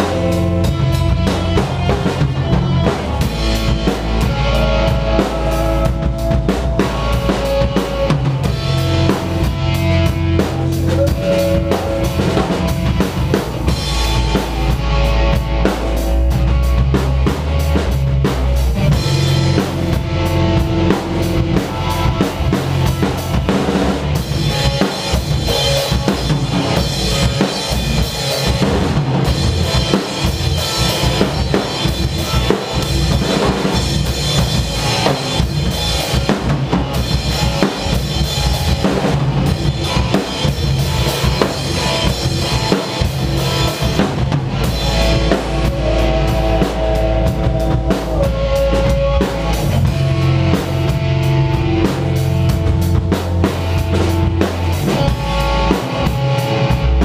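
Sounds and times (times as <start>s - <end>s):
drum kit beat: 0.0s - 57.0s
rock band playing: 0.0s - 57.0s.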